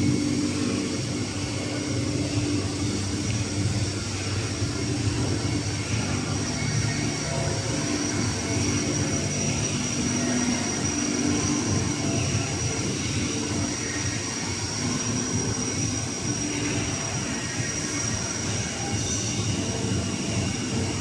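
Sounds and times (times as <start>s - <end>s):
constant high whine: 0.0s - 21.0s
machine tools running: 0.0s - 21.0s.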